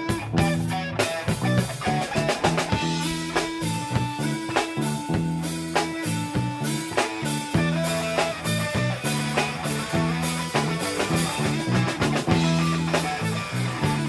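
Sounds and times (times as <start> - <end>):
bass riff: 0.0 - 14.0
drums: 0.0 - 14.0
electric guitar lead: 0.0 - 14.0.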